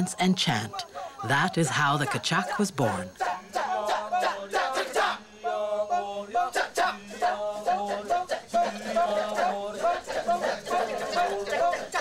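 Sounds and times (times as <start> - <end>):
male chorus chanting: 0.0 - 12.0.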